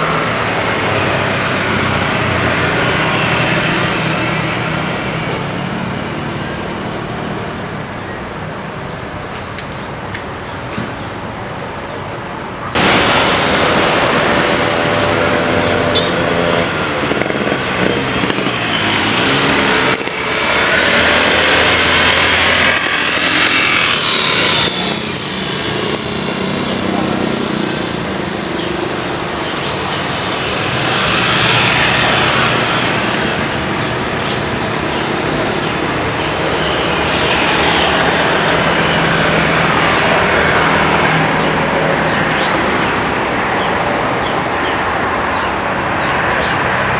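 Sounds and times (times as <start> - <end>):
loud engine rush: 0.0 - 8.0, 12.7 - 46.9.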